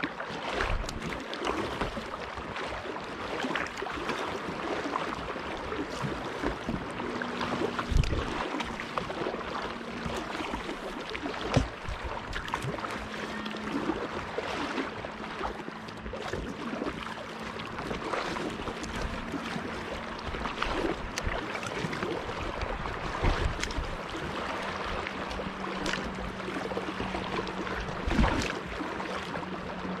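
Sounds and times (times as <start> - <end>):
water lapping around a kayak: 0.0 - 30.0
sharp water splashes: 0.3 - 29.4.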